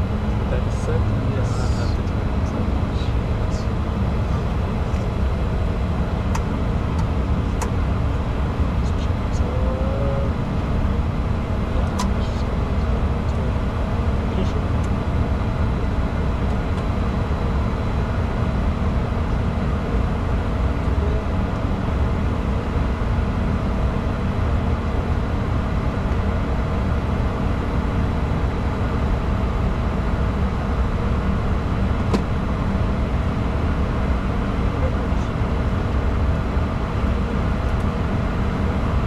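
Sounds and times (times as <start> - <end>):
cockpit engine and airflow rumble: 0.0 - 39.0.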